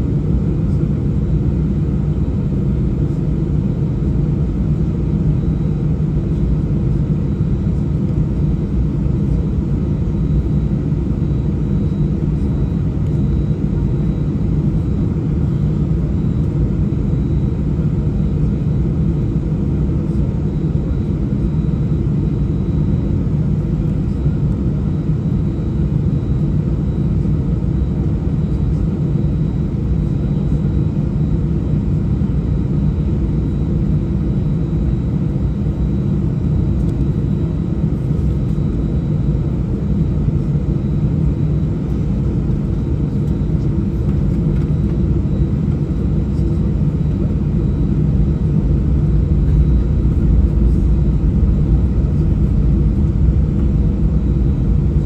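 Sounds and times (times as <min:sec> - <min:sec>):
jet engines rumbling: 0:07.7 - 0:55.0.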